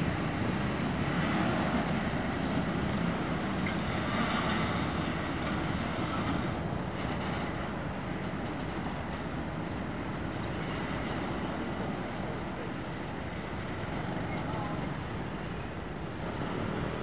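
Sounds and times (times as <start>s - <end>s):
freight train running on rails: 0.0s - 17.0s.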